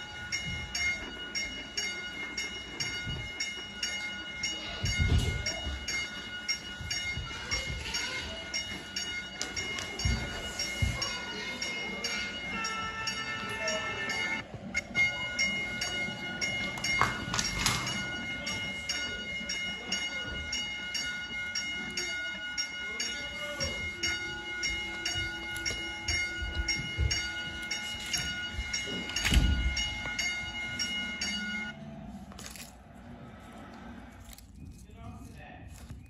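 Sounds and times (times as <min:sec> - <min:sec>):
toy railroad crossing warning dings: 0:00.0 - 0:31.8.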